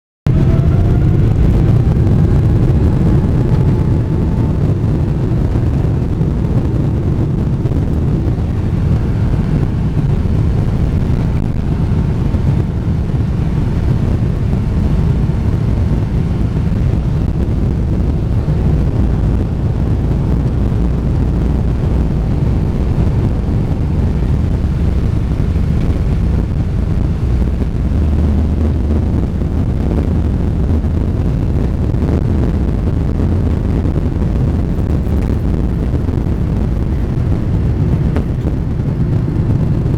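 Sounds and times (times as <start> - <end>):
jet engines at takeoff: 0.3 - 39.9.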